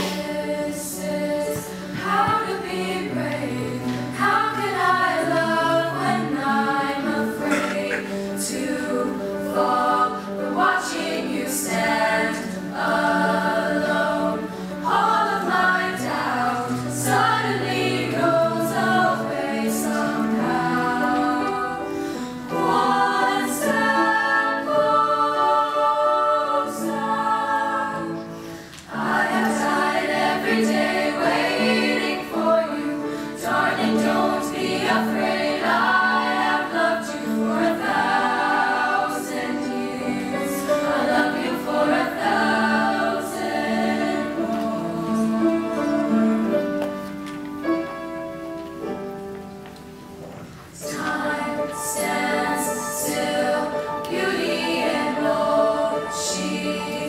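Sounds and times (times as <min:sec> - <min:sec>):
girls' choir singing in harmony: 0:00.0 - 0:57.0.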